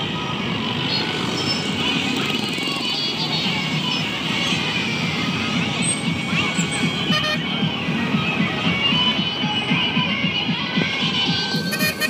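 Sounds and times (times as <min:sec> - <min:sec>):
music with fast beat: 0:00.0 - 0:12.0.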